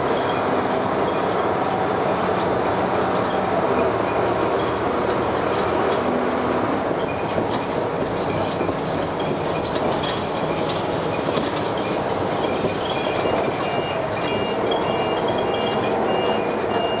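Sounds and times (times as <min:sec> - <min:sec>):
bus rumbling and rattling: 0:00.0 - 0:17.0.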